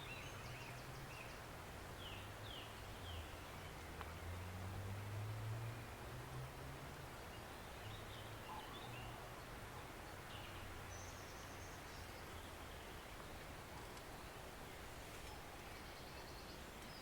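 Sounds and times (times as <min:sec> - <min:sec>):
stream flowing gently: 0:00.0 - 0:17.0.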